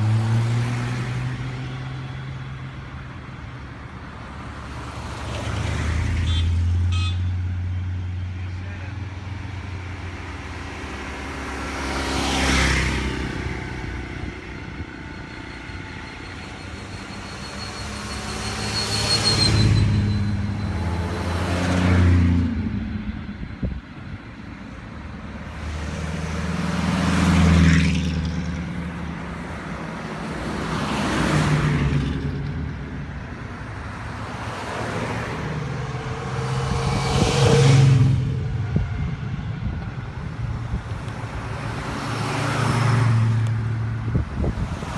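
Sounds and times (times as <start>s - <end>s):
cars passing by: 0.0s - 44.9s.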